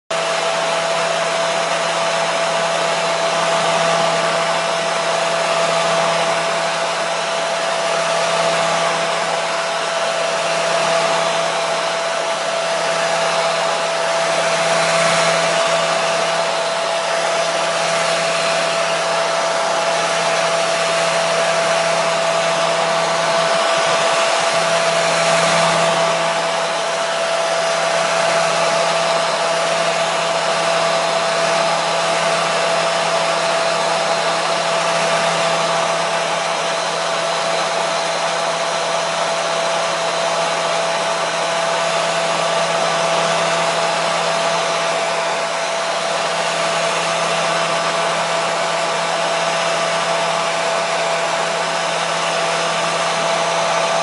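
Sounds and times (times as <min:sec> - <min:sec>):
hair dryer running: 0:00.1 - 0:54.0.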